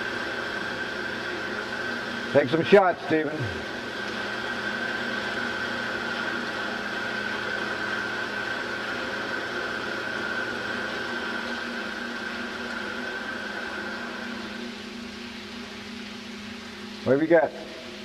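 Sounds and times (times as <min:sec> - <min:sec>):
high-pitched machine whine: 0:00.0 - 0:18.0
machine hiss and hum: 0:00.0 - 0:18.0.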